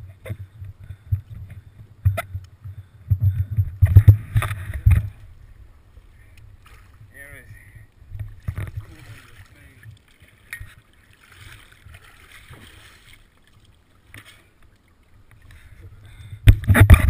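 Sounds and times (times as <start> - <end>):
water splashing against camera: 0.0 - 17.0.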